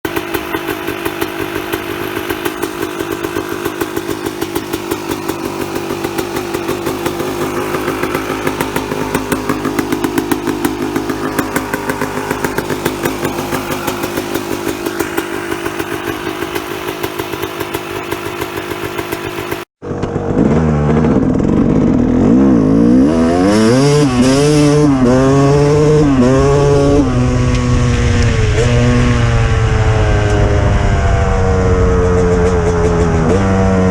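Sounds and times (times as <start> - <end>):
small engine running steadily: 0.0 - 33.9
engine revving up and down: 1.1 - 33.9.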